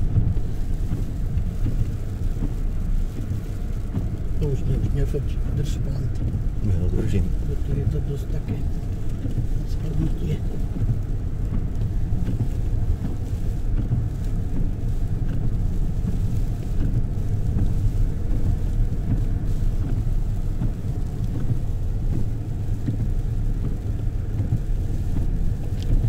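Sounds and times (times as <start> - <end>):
engine and tyres on snow rumbling: 0.0 - 26.0.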